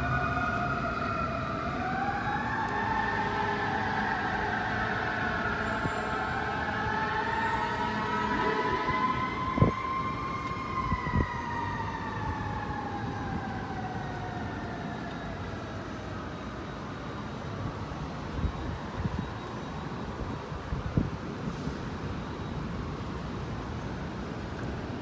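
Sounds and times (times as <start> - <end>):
siren wailing: 0.0 - 20.3.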